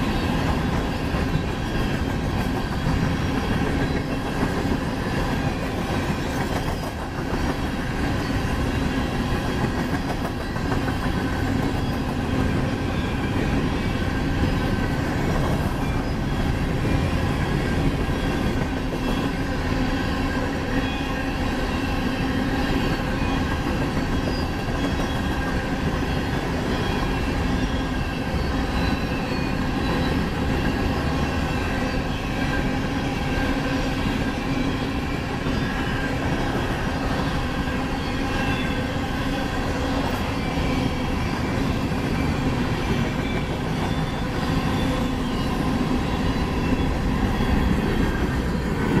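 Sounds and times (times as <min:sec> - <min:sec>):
steel wheels on rails: 0:00.0 - 0:49.0.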